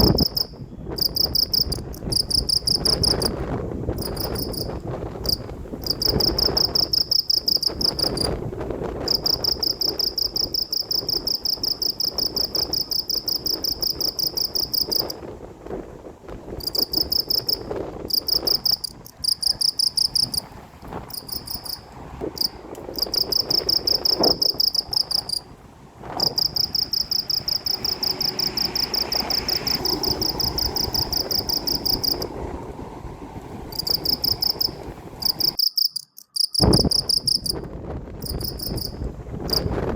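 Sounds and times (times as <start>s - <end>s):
cricket trilling: 0.0s - 3.3s, 4.0s - 8.4s, 9.0s - 15.2s, 16.6s - 20.5s, 21.1s - 21.8s, 22.4s - 25.4s, 26.2s - 32.3s, 33.7s - 37.6s, 38.2s - 39.7s
steady low rumble: 0.0s - 35.6s.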